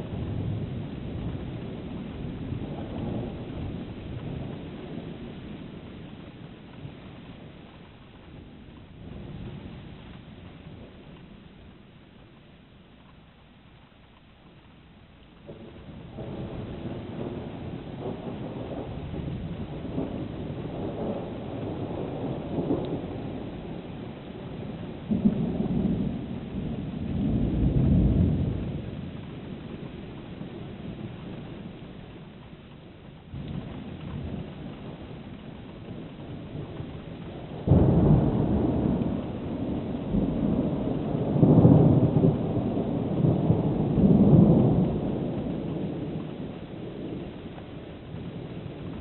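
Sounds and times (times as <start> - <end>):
thunder rumbling: 0.0 - 11.9, 15.4 - 49.0
steady rain: 0.0 - 49.0.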